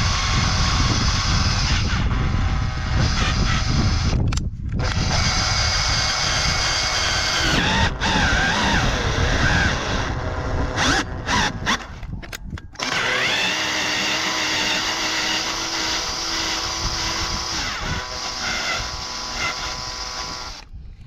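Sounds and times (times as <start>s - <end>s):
electric drill motor whining: 0.0s - 20.8s.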